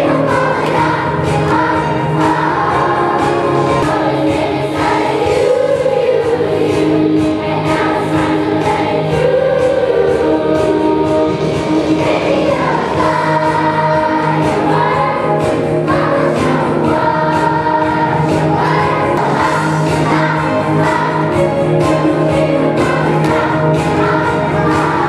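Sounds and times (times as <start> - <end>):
girls choir singing: 0.0 - 25.0
instrumental accompaniment with beat: 0.0 - 25.0.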